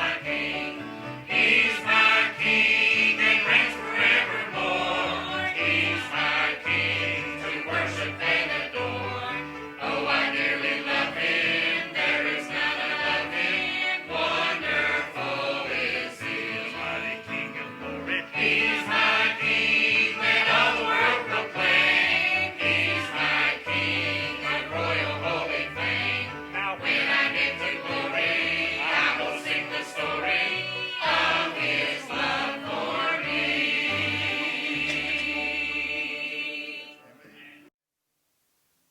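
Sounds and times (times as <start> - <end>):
choir singing gospel song: 0.0 - 37.2.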